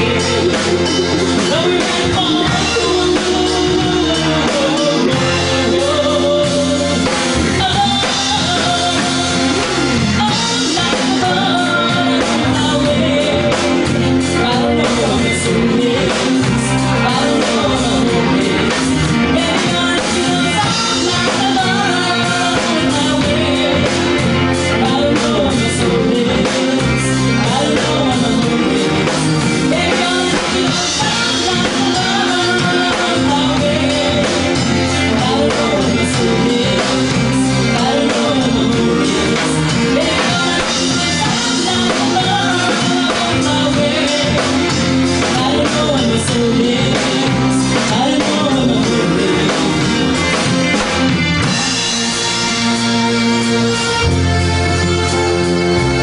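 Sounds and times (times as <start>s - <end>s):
pop song with singing and band: 0.0s - 56.0s.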